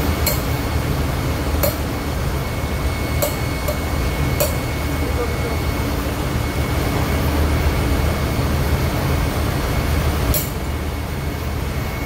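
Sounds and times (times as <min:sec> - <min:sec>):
engine room machinery drone: 0:00.0 - 0:12.0.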